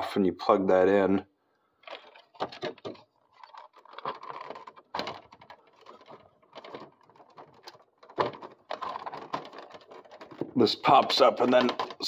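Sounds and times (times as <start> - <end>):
plastic panel clicks and scrapes: 1.8 - 12.0.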